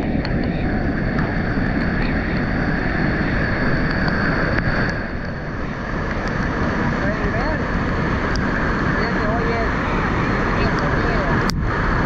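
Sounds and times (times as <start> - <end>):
water roaring over dam spillway: 0.0 - 12.0.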